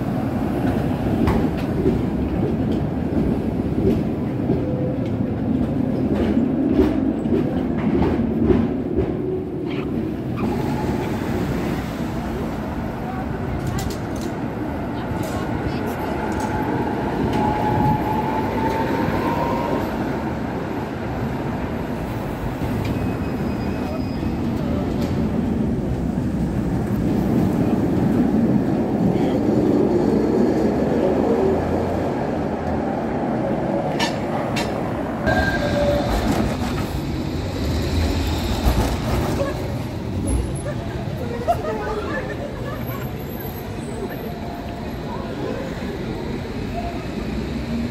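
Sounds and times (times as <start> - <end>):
tram wheels rumbling on rails: 0.0 - 47.9.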